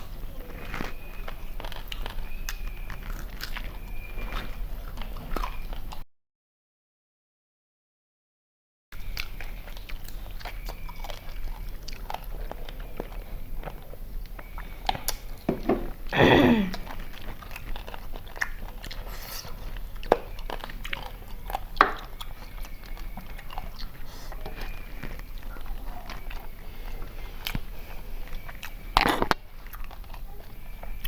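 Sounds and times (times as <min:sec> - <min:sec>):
chewing and crunching food: 0:00.0 - 0:06.0, 0:09.0 - 0:31.0.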